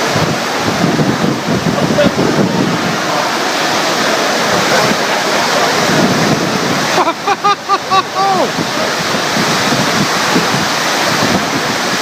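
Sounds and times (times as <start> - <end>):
rushing windstorm: 0.0 - 12.0
wind buffeting microphone: 0.0 - 12.0.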